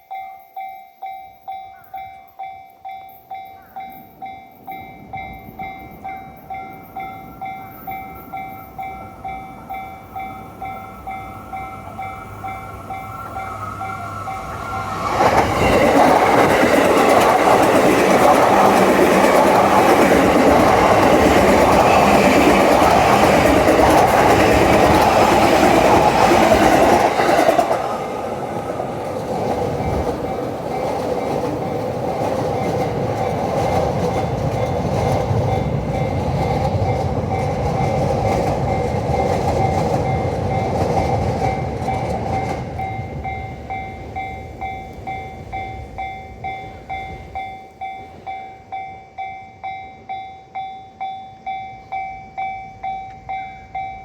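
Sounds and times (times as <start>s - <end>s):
crossing warning bell ringing: 0.0s - 54.0s
train passing: 0.0s - 54.0s.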